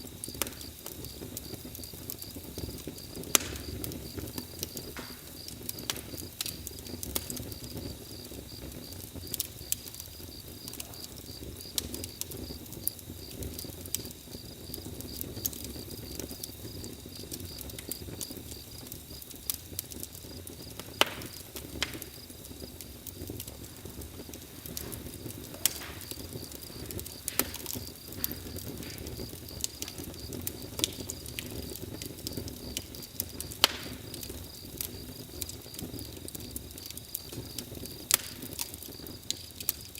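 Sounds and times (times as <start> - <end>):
campfire crackling and popping: 0.0 - 39.9
crickets chirping: 0.0 - 39.9
low rumble of flames: 0.0 - 39.9.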